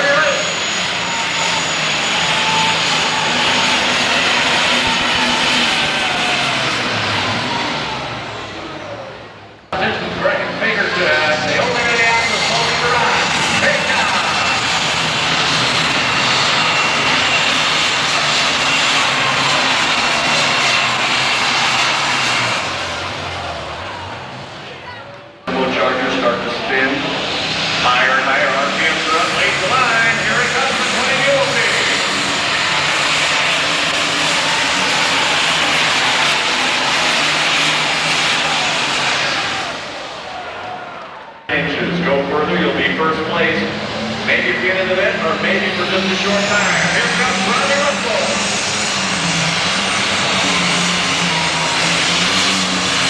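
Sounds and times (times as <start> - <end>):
tractor engine at full power: 0.0 - 53.0.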